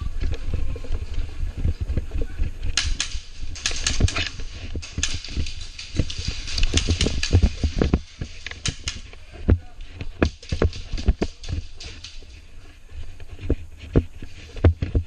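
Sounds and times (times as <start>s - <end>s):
low thumps of movement: 0.0s - 15.0s.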